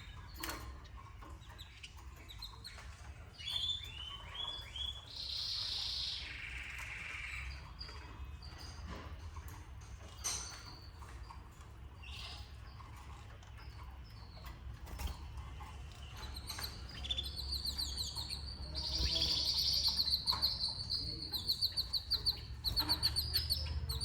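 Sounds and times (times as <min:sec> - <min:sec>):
canaries chirping in trills: 0:00.0 - 0:24.0.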